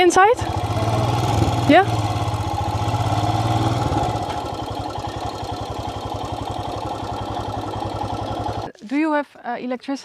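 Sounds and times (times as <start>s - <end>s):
motorcycle engine pulsing: 0.0s - 8.8s.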